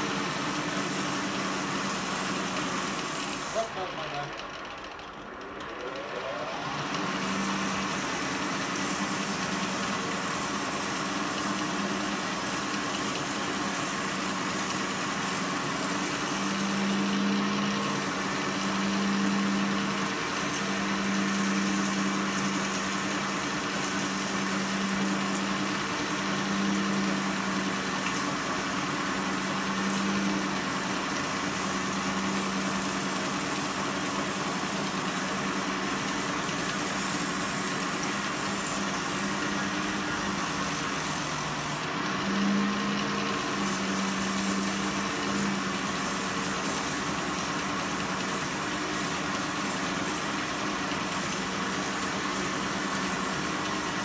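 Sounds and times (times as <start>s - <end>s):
bench grinder motor humming: 0.0s - 54.0s.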